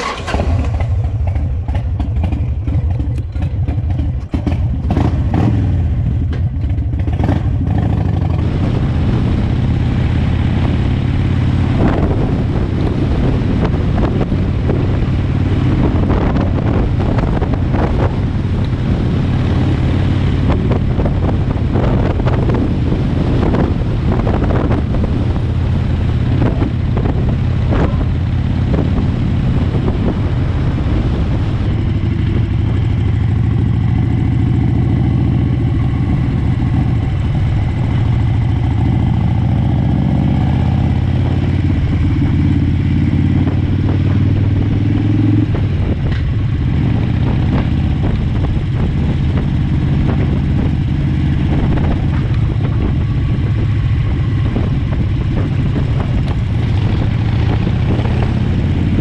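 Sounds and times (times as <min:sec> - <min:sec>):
motorcycle engine running: 0:00.0 - 0:59.0
wind rushing over microphone: 0:03.7 - 0:59.0.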